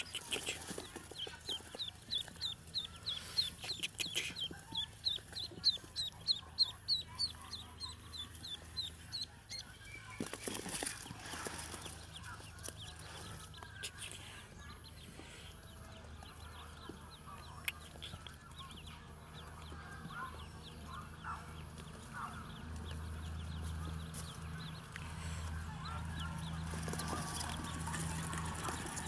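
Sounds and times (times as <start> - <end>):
ducklings peeping: 0.0 - 29.0.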